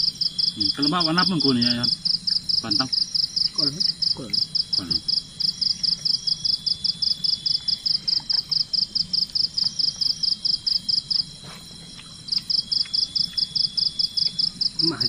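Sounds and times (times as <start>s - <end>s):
high insect whine: 0.0s - 15.0s
insect chirping in pulses: 0.0s - 15.0s.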